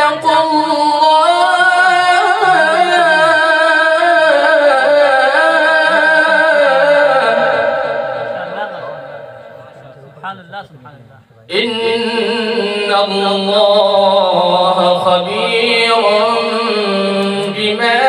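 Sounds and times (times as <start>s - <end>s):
man reciting melodically into microphone: 0.0s - 18.0s.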